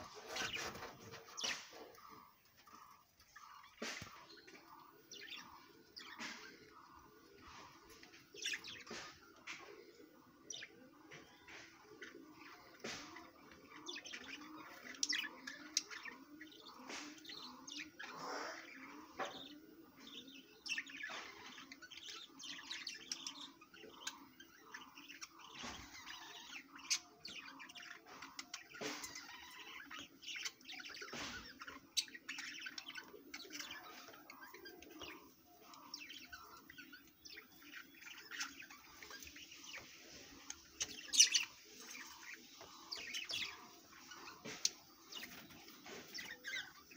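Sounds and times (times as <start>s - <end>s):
budgerigars chirping and twittering: 0.0s - 46.9s.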